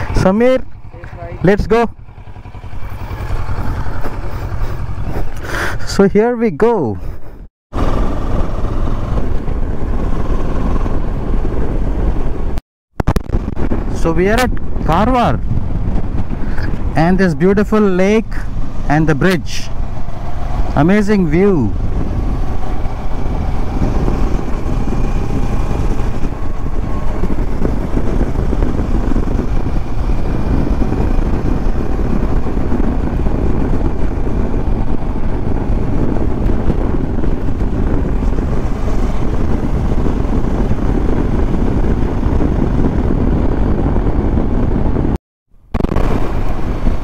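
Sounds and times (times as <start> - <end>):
motorcycle engine: 0.0 - 5.9, 7.0 - 47.0
wind rush on microphone: 0.0 - 47.0.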